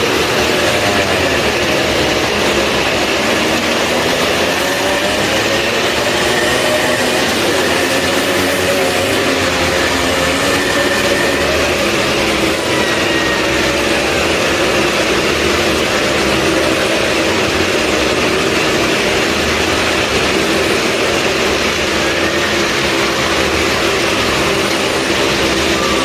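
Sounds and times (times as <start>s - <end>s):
loud vehicle engines running: 0.0s - 26.0s.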